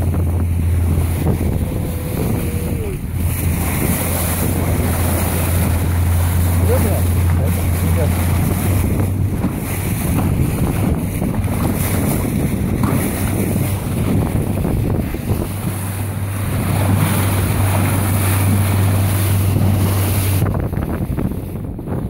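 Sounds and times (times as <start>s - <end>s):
spray rushing off hull: 0.0s - 20.5s
outboard engine hum: 0.0s - 22.0s
wind buffeting microphone: 0.0s - 22.0s.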